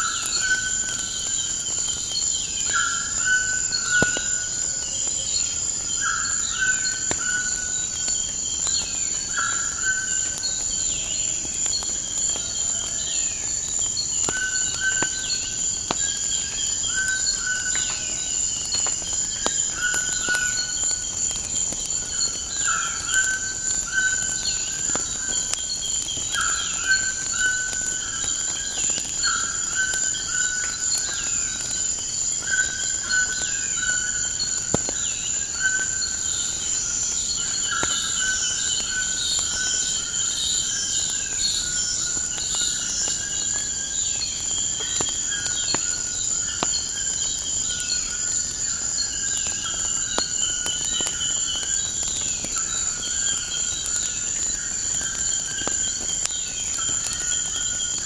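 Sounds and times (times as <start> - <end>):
crickets chirping: 0.0 - 58.0
wood fire crackling: 0.0 - 58.0.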